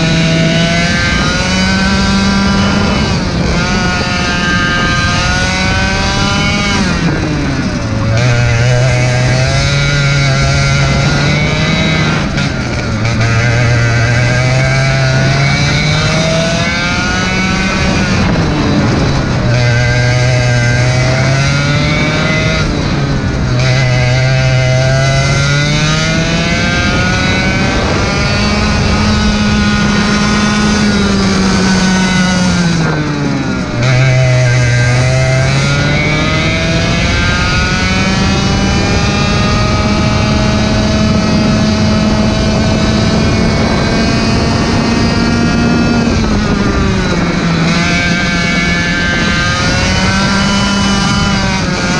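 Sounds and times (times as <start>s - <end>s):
racing kart engine revving: 0.0s - 51.9s.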